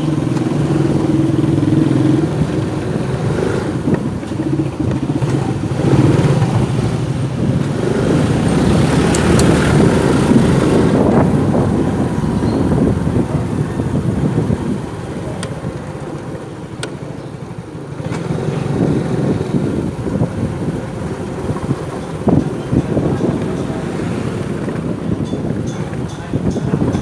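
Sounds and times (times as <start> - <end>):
continuous rushing noise: 0.0 - 27.0
street traffic engines: 0.0 - 27.0.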